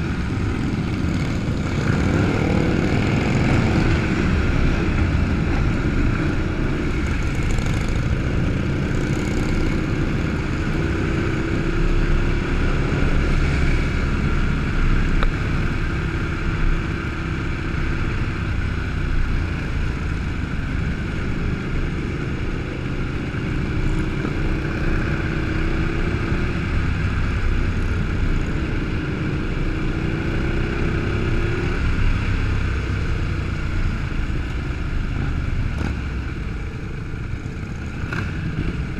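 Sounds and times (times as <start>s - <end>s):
motorcycle engines rumbling: 0.0s - 38.9s.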